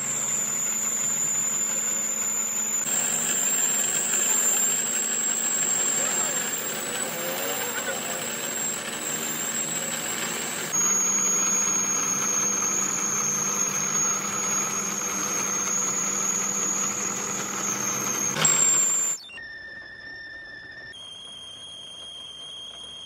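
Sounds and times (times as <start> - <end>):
metal lathe running: 0.0 - 19.2
high-pitched squeal: 0.0 - 23.0.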